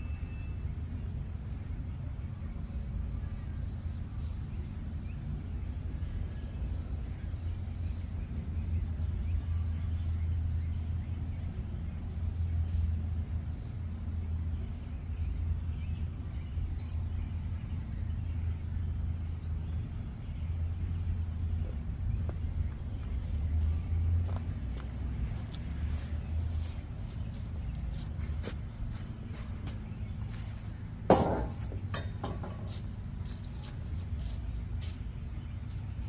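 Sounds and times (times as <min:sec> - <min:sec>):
vehicle engine rumble: 0:00.0 - 0:36.0.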